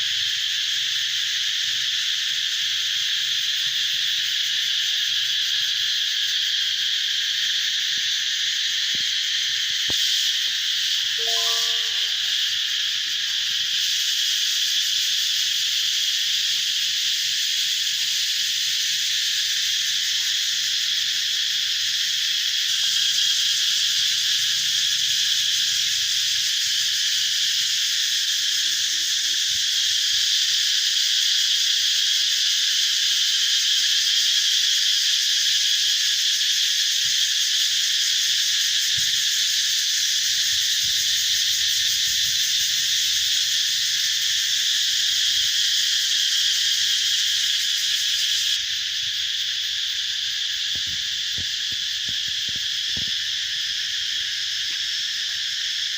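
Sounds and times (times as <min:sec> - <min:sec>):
cicadas high-pitched drone: 0:00.0 - 0:55.9.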